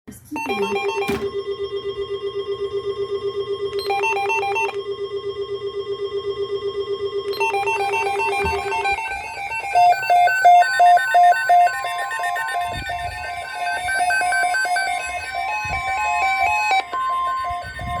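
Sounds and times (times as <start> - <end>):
electronic melody: 0.4 - 18.0
low beep pulsing rapidly: 0.4 - 18.0.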